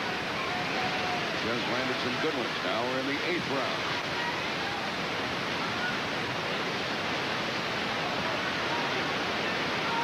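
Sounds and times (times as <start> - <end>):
crowd hubbub: 0.0 - 10.0
faint voices: 0.0 - 10.0.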